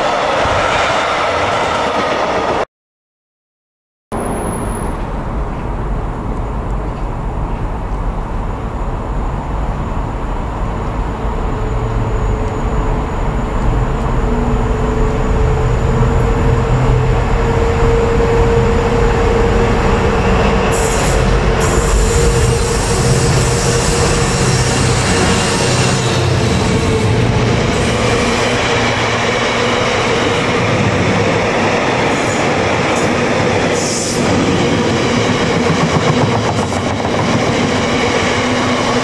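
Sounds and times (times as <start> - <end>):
diesel locomotive rumbling: 4.2 - 39.0.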